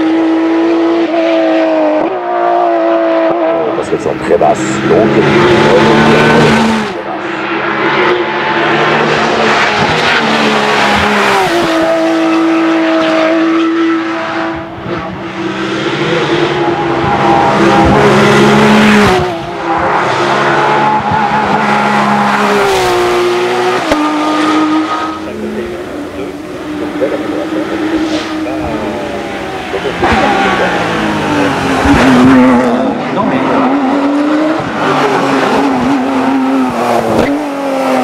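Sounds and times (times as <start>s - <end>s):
race car engine at high revs: 0.0s - 38.0s.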